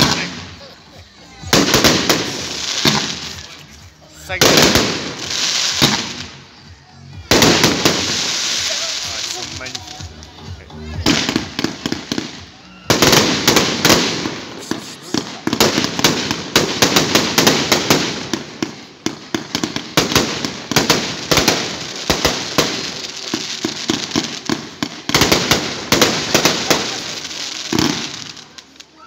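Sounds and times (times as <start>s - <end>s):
fireworks popping and banging: 0.0s - 6.5s, 7.2s - 29.0s
fireworks crackling: 0.0s - 29.0s.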